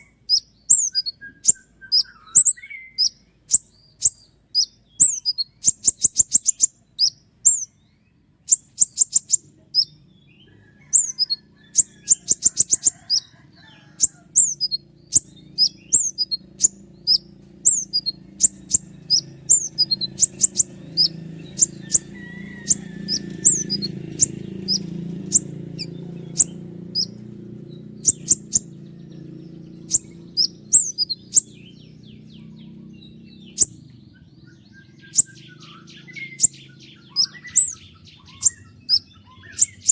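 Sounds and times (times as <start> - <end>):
small bird singing high notes: 0.0 - 7.8, 8.5 - 10.0, 14.3 - 27.2, 28.0 - 33.8, 34.5 - 39.9.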